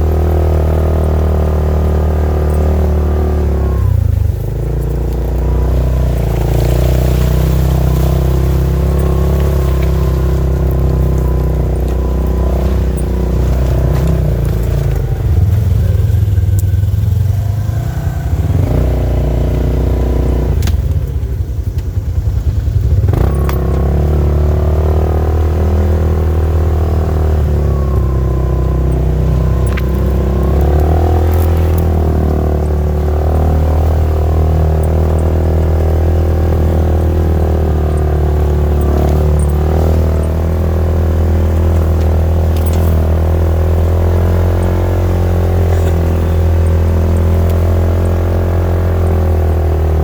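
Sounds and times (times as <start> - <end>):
off-road vehicle engine running: 0.0 - 50.0.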